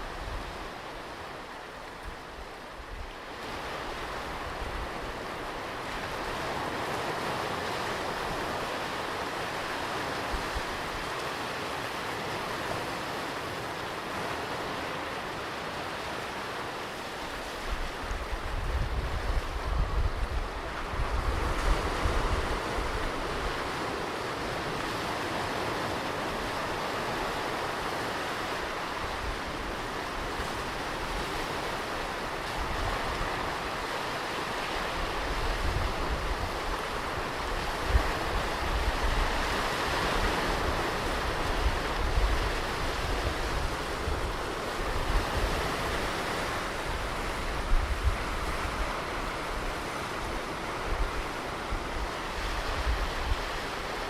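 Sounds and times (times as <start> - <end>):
wind rumbling on microphone: 0.0 - 12.0, 17.0 - 54.0
ocean surf washing on beach: 0.0 - 54.0.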